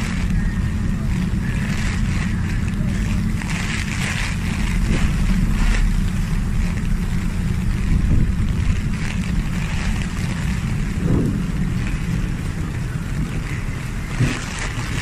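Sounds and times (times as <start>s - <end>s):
heavy rain hiss: 0.0s - 15.0s
wind buffeting microphone: 0.0s - 15.0s.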